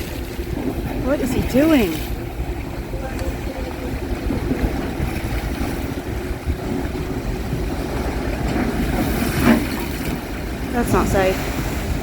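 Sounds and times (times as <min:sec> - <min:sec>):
choppy water: 0:00.0 - 0:12.0
wind buffeting microphone: 0:00.0 - 0:12.0.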